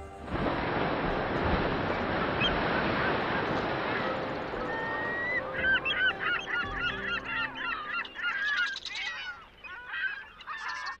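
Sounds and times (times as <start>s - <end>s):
soft surf-like background: 0.0s - 10.6s
flock of birds calling: 2.1s - 11.0s.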